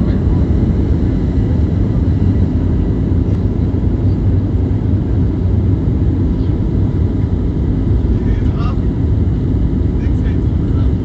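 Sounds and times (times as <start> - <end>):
airliner engines rumbling: 0.0 - 11.0
faint engine whine: 0.0 - 11.0.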